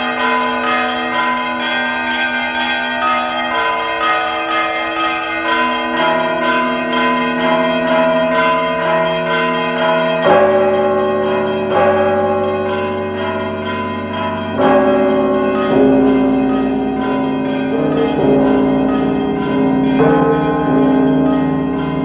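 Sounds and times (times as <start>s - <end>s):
church bells ringing: 0.0s - 22.0s
deep bells struck: 0.0s - 22.0s.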